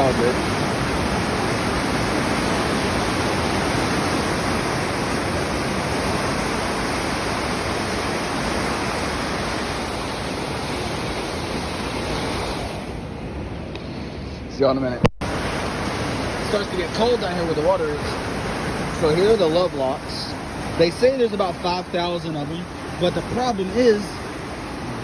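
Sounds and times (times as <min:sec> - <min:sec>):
water rushing through lock gates: 0:00.0 - 0:13.2, 0:15.2 - 0:25.0.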